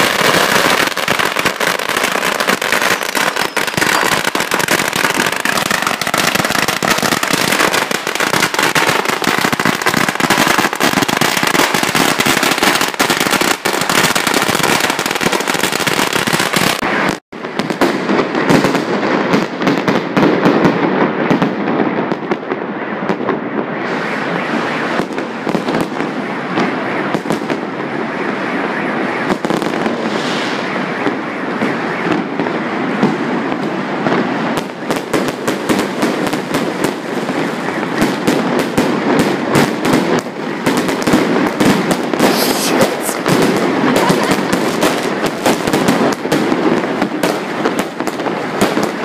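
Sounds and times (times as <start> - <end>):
aerial fireworks bursting: 0.0 - 49.0
firecrackers crackling: 0.0 - 49.0.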